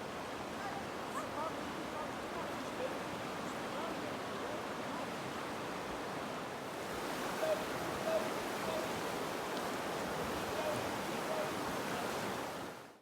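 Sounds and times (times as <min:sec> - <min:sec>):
river water rushing over rocks: 0:00.0 - 0:12.9.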